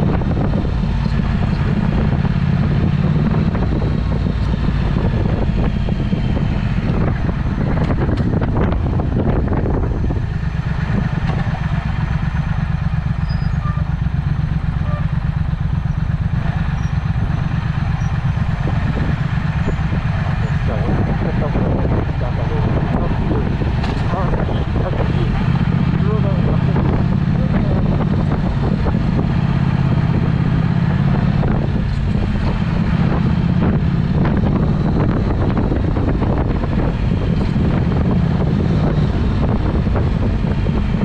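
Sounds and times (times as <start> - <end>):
motorcycle engine low pulsing exhaust: 0.0 - 41.0.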